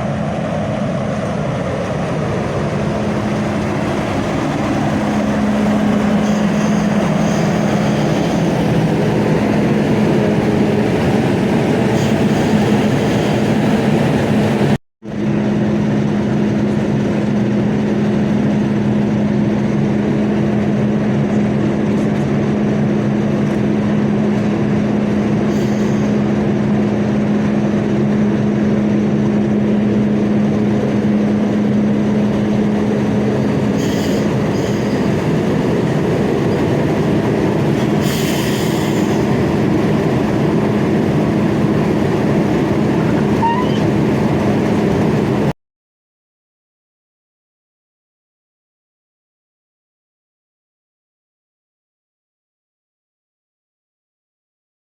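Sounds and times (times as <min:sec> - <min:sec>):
rail rumble: 0:00.0 - 0:45.5
diesel locomotive engine drone: 0:00.0 - 0:45.6.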